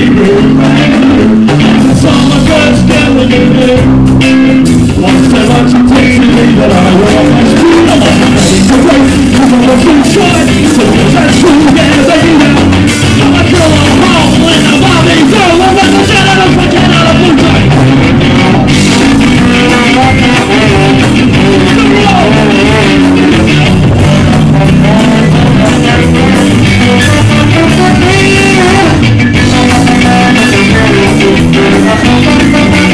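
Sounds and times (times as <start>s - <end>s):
drum kit: 0.0s - 32.9s
electric guitar: 0.0s - 32.9s
male lead vocals: 0.0s - 32.9s.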